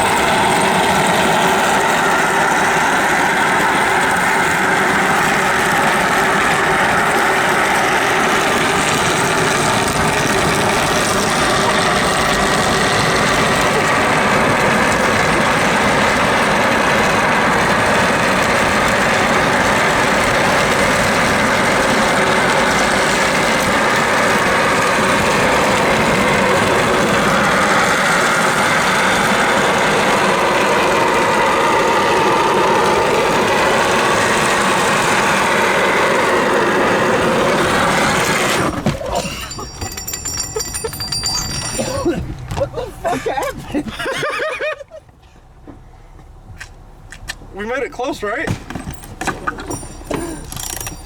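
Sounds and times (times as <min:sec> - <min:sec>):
couch casters scraping on asphalt: 0:00.0 - 0:45.6.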